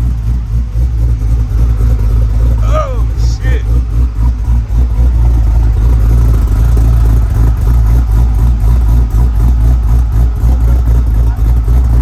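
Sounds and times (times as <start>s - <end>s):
car engine running loud: 0.0s - 12.0s.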